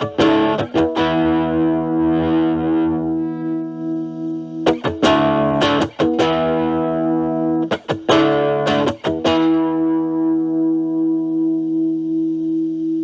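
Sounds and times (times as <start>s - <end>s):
electric guitar chords strummed: 0.0s - 12.6s.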